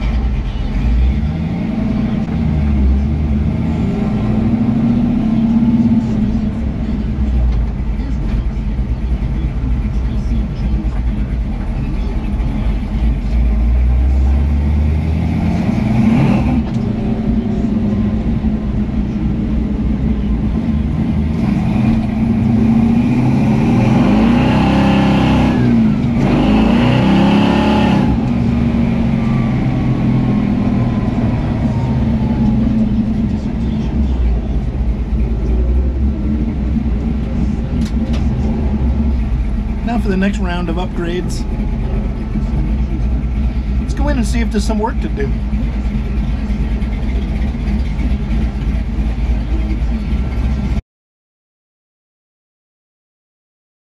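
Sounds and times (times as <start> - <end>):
pickup truck engine running: 0.0 - 50.8
road and wind noise: 0.0 - 50.8.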